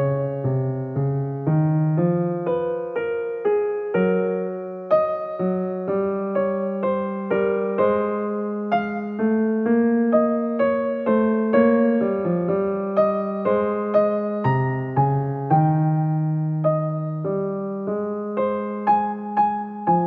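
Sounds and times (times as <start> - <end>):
piano melody: 0.0 - 20.0.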